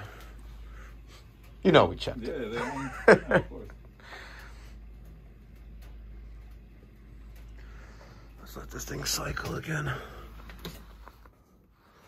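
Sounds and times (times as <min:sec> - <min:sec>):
circulator pumps humming: 0:00.0 - 0:12.0.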